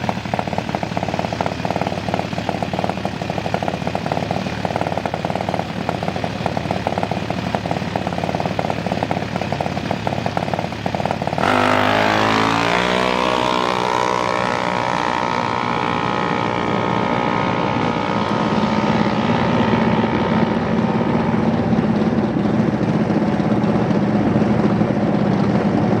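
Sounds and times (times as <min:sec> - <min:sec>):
dragster engine at full throttle: 0:00.0 - 0:26.0.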